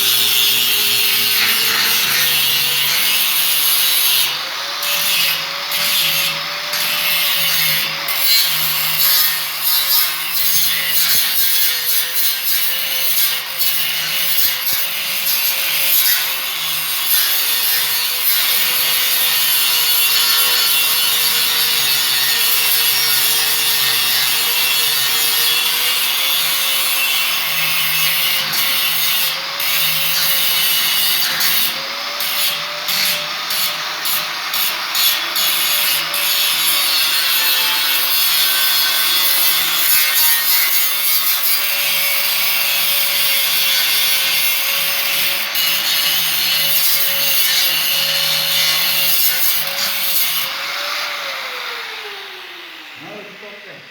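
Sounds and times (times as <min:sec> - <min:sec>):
angle grinder grinding metal: 0:00.0 - 0:53.8.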